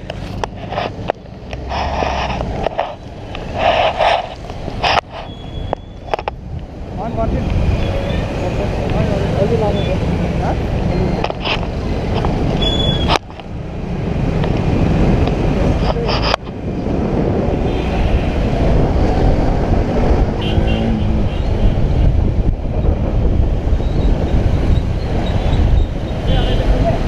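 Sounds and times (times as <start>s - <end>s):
surrounding traffic: 0.0s - 27.0s
wind rushing over microphone: 0.0s - 27.0s.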